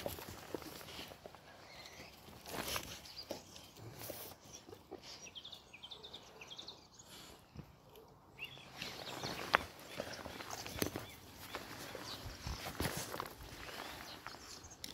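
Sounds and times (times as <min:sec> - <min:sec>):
bird chirping: 0:00.3 - 0:07.7, 0:08.3 - 0:14.9.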